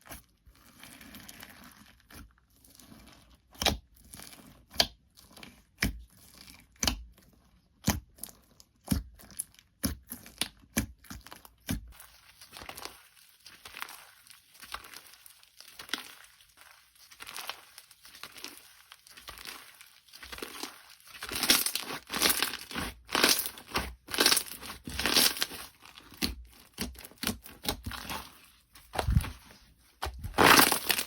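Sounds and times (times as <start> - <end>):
slime squishing and crackling: 0.0 - 31.0.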